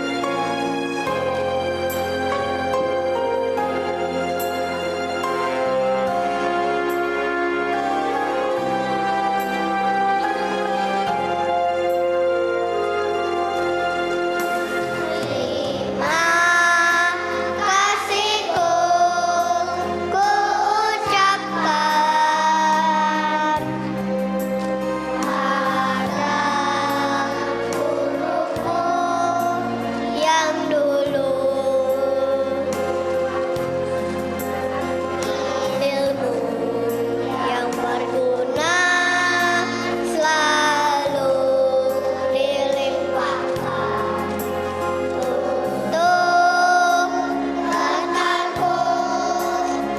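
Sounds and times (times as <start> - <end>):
children's choir singing: 0.0 - 49.9
musical accompaniment: 0.0 - 49.9.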